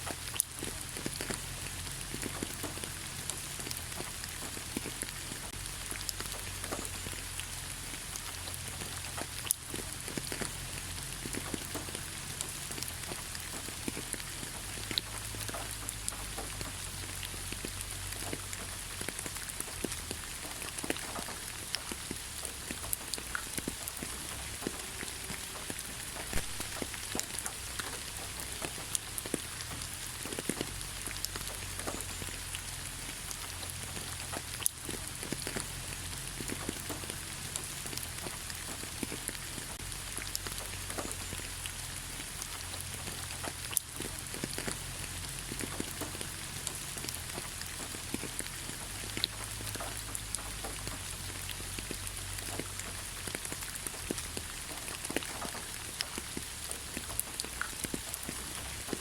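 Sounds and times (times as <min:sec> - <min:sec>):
gentle rain on leaves: 0:00.0 - 0:59.0
raindrops ticking: 0:00.0 - 0:59.0.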